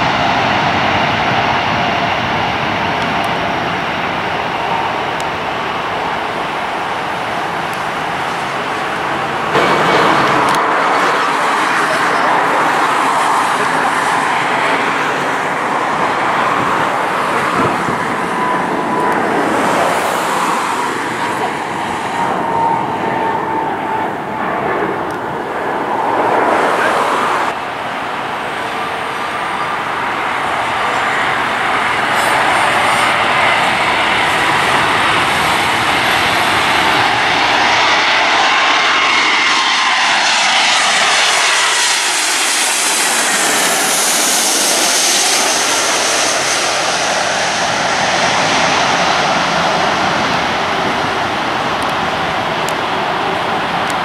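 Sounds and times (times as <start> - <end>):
landing jet passing overhead: 0.0 - 54.0.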